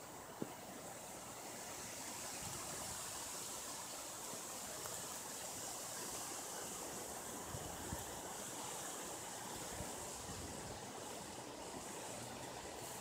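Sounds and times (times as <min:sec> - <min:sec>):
rushing hissy outdoor noise: 0:00.0 - 0:13.0.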